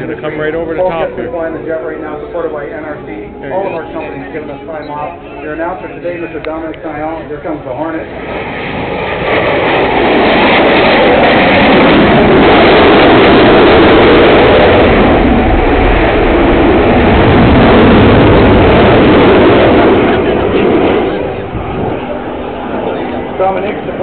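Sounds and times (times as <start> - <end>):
jet engines roaring past: 0.0 - 24.0.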